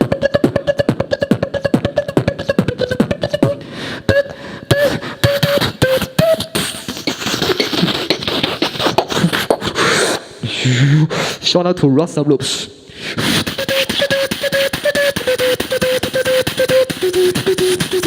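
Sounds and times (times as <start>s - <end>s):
person beatboxing: 0.0s - 11.5s, 12.4s - 18.0s.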